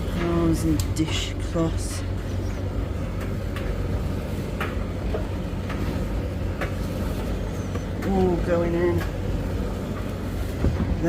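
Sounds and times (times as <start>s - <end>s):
tumble dryer humming: 0.0s - 11.0s.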